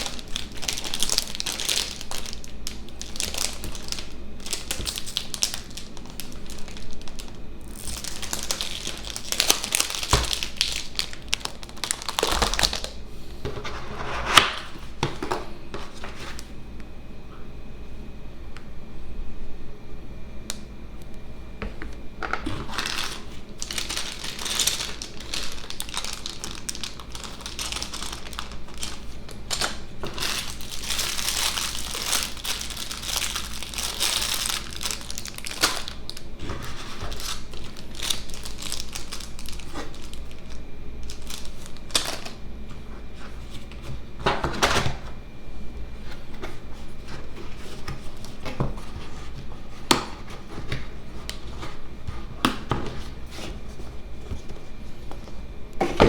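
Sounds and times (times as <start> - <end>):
packaging crinkling and rustling: 0.0 - 16.6, 21.6 - 56.0.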